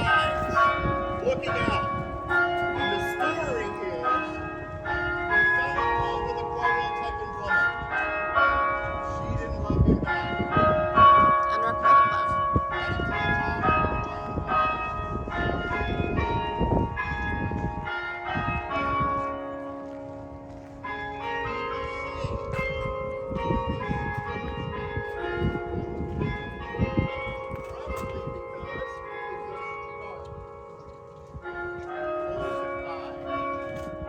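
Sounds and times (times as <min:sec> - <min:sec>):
church bells ringing: 0:00.0 - 0:34.0.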